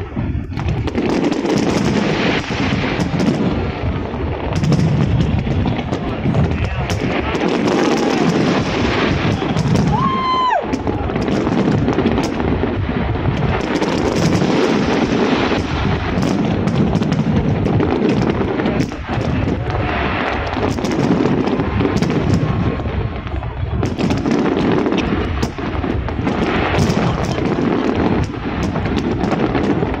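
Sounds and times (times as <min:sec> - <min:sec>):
fireworks sharp cracks: 0:00.0 - 0:30.0
fireworks shell bursts rumbling: 0:00.0 - 0:30.0.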